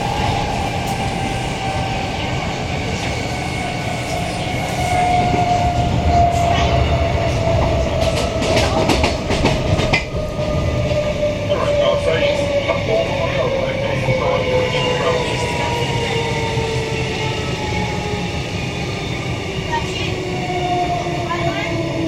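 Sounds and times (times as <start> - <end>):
electric train whine: 0.0 - 22.0
train wheels rumbling on track: 0.0 - 22.0.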